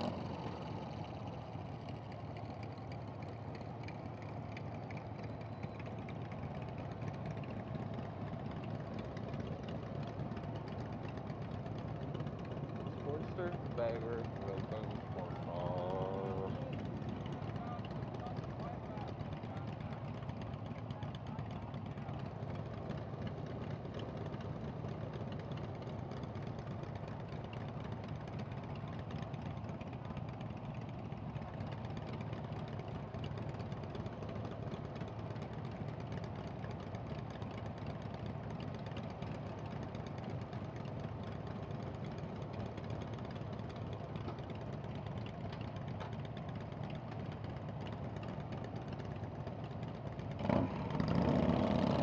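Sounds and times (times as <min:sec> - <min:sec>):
motorcycle engines idling: 0:00.0 - 0:52.0.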